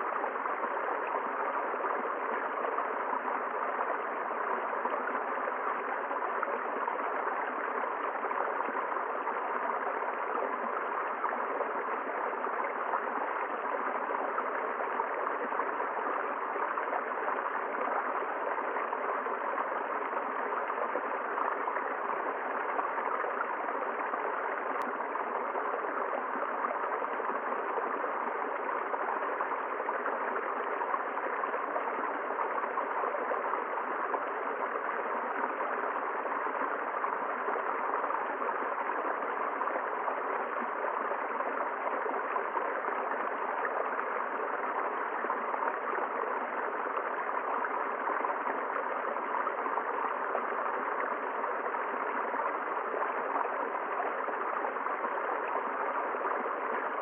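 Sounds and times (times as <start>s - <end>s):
river gurgling over rocks: 0.0s - 57.0s.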